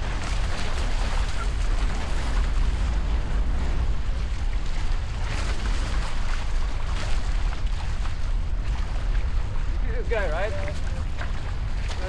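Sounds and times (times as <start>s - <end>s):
water rushing past hulls: 0.0s - 12.0s
wind rumbling on microphone: 0.0s - 12.0s.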